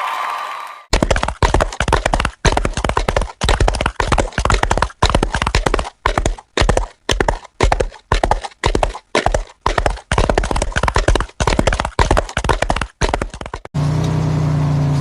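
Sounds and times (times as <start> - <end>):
horse hooves clip-clopping on road: 0.9 - 13.7.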